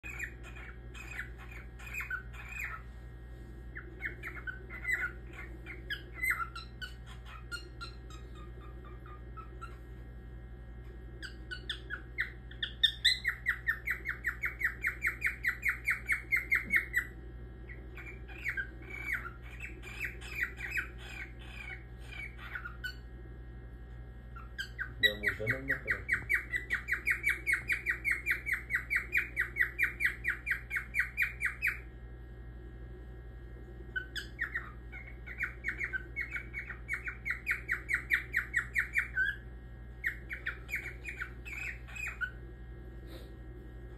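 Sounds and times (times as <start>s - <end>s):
cockatiel chirping: 0.0s - 3.0s, 3.7s - 9.9s, 11.2s - 23.1s, 24.3s - 31.9s, 33.9s - 42.4s.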